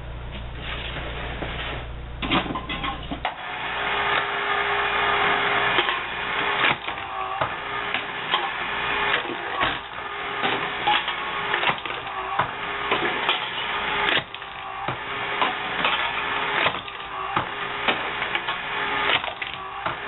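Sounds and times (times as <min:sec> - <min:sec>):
machine hum: 0:00.0 - 0:20.0
can crusher clanking and crunching: 0:02.2 - 0:20.0.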